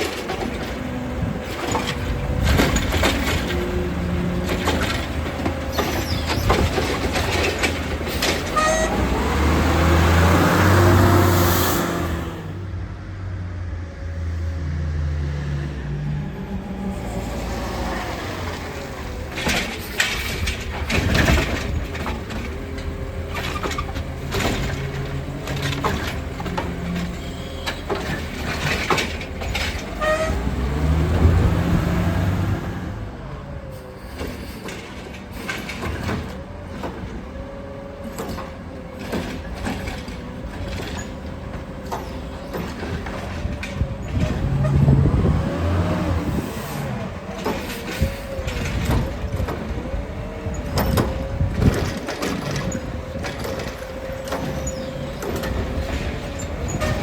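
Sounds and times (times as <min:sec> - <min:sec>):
knocks and clatter of carts: 0:00.0 - 0:11.2, 0:17.4 - 0:57.0
garbage truck engine revving: 0:00.0 - 0:13.0, 0:14.5 - 0:33.6, 0:35.9 - 0:57.0.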